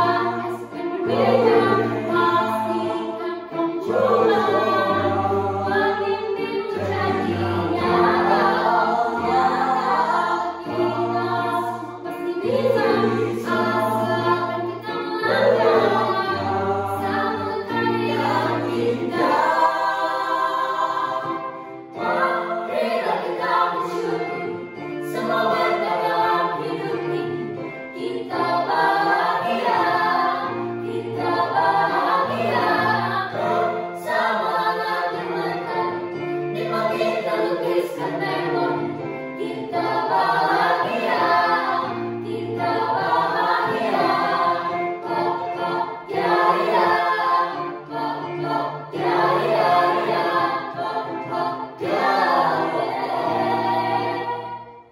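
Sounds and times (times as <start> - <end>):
mixed choir singing in harmony: 0.0 - 54.9.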